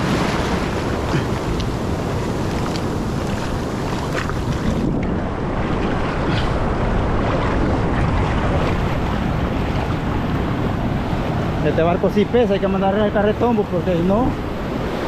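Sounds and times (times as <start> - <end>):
surf washing around boat hull: 0.0 - 15.0
wind buffeting microphone: 0.0 - 15.0.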